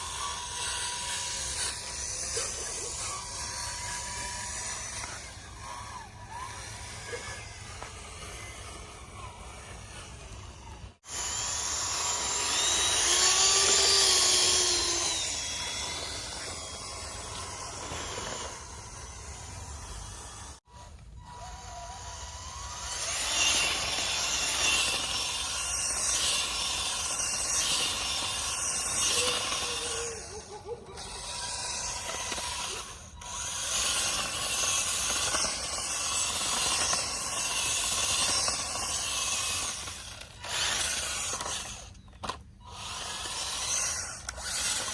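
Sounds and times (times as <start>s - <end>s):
small gear motor whirring: 0.0s - 44.9s.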